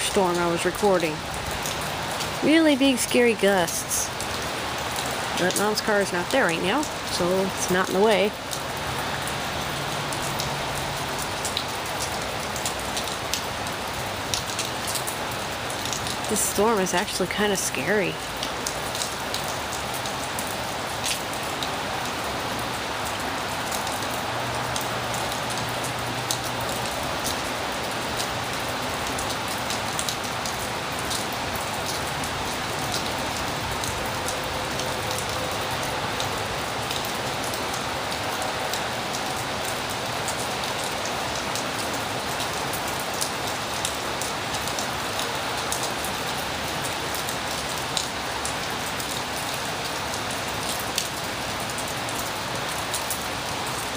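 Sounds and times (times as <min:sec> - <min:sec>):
heavy rain falling: 0:00.0 - 0:53.9
raindrops ticking on surface: 0:00.0 - 0:53.9.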